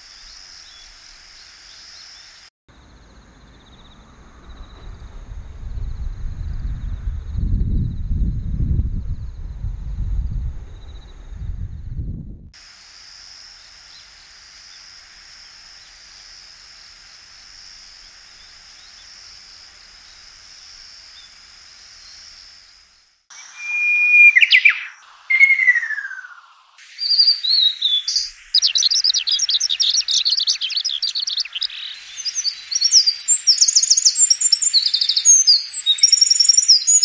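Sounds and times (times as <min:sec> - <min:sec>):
songbird singing: 0:00.0 - 0:11.5, 0:17.4 - 0:37.0.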